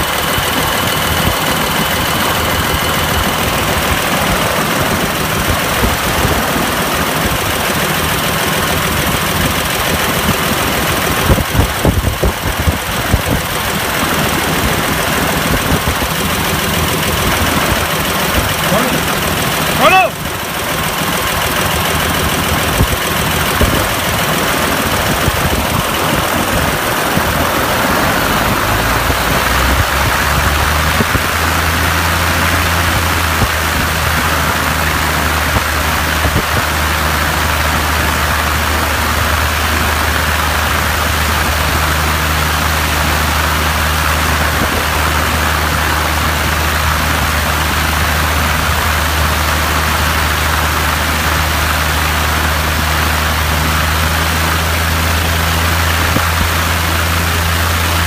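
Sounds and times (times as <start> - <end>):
aircraft piston engine running: 0.0 - 58.0.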